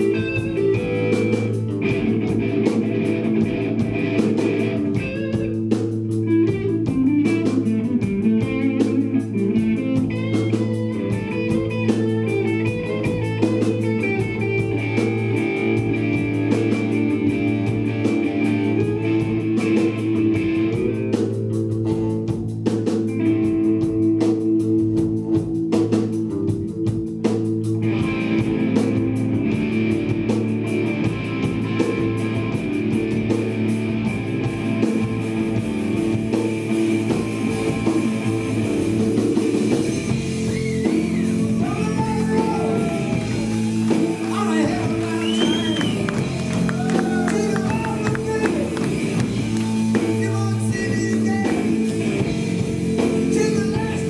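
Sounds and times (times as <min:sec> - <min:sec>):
blues-rock band playing: 0:00.0 - 0:54.0
electric guitar lead: 0:00.0 - 0:54.0.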